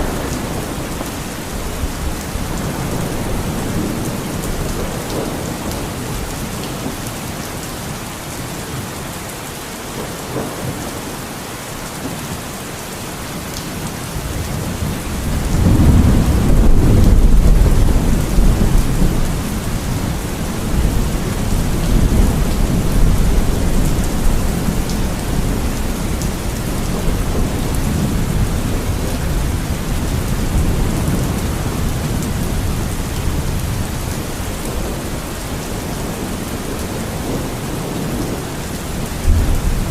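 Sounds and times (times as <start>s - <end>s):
thunder rumbling: 0.0s - 7.1s, 14.1s - 39.9s
steady rain falling: 0.0s - 39.9s.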